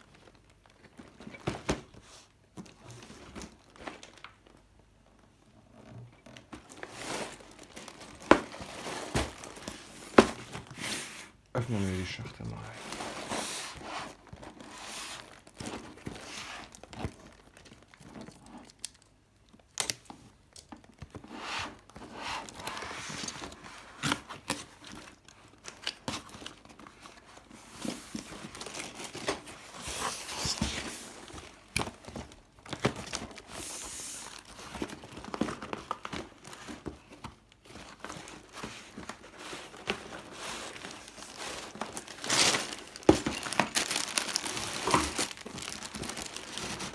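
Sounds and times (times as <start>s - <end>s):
packaging crinkling and rustling: 0.0s - 46.9s.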